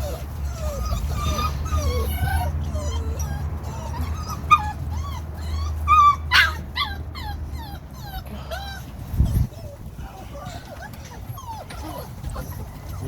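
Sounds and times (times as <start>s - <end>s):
puppies whining and yipping: 0.0s - 13.0s.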